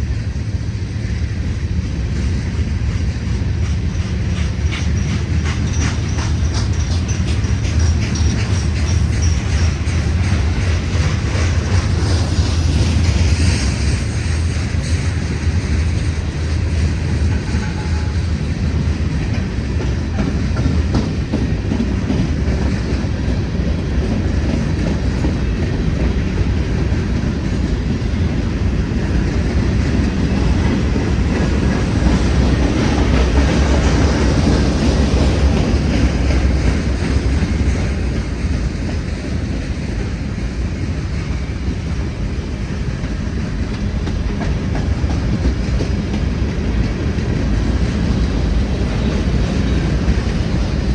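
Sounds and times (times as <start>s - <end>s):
freight train rolling past: 0.0s - 50.9s
wheels clacking over rail joints: 2.2s - 50.9s.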